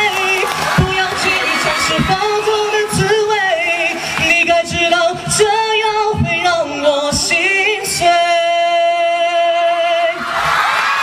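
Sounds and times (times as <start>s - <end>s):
amplified voice singing with vibrato: 0.0s - 11.0s.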